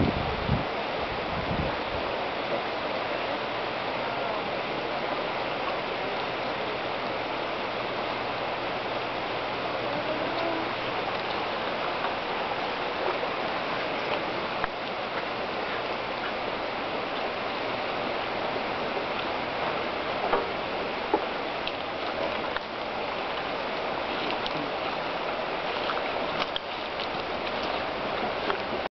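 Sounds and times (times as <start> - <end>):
river rushing over rocks: 0.0 - 28.9.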